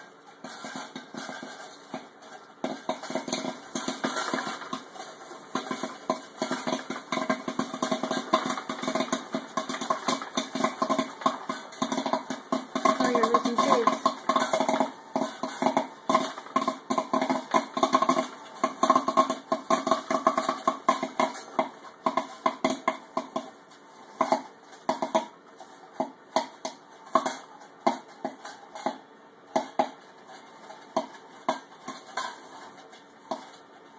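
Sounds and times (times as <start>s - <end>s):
popcorn maker hum: 0.0s - 33.9s
popcorn popping: 0.0s - 33.9s.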